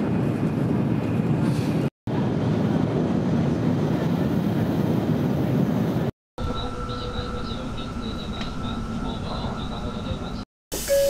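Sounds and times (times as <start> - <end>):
train rushing rumble: 0.0 - 10.4.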